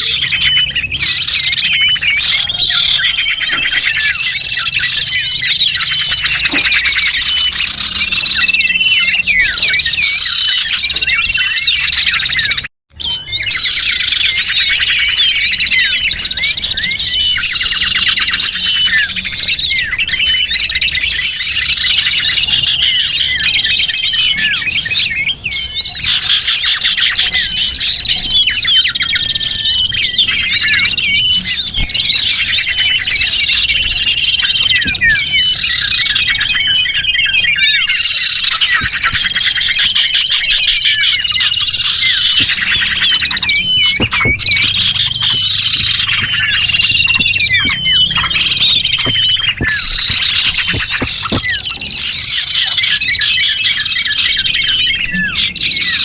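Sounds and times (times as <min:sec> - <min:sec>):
small birds twittering: 0:00.0 - 0:56.0.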